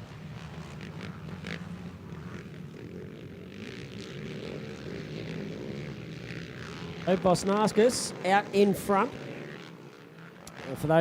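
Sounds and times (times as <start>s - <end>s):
quad bike engines droning: 0.0s - 11.0s.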